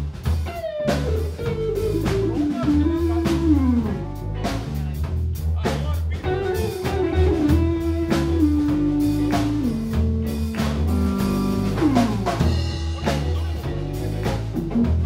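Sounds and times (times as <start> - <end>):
bass guitar: 0.0 - 15.0
drum kit steady beat: 0.0 - 15.0
electric guitar lead notes: 0.4 - 4.6, 6.2 - 15.0.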